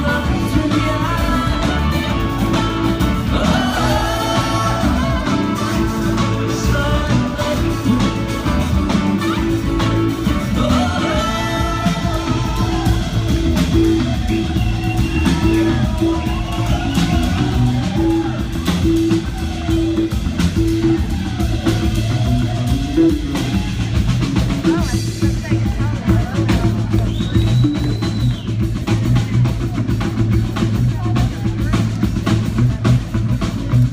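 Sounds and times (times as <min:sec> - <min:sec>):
drum kit: 0:00.0 - 0:33.9
repeating bass line: 0:00.0 - 0:33.9
string band playing: 0:00.0 - 0:33.9.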